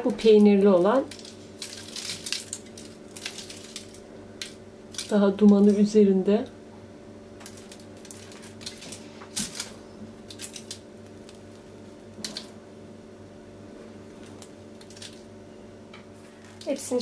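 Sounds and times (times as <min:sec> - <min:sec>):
bread crust crackling: 0:00.0 - 0:06.0, 0:07.2 - 0:17.0
steady low hum: 0:00.0 - 0:17.0.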